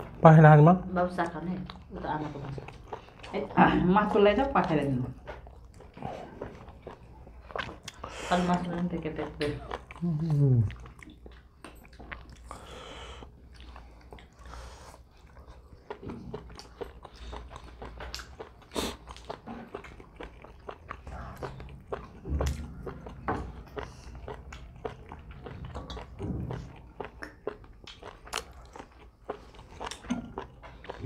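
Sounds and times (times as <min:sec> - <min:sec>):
chewing and biting clicks: 0:04.4 - 0:12.6, 0:13.2 - 0:31.0.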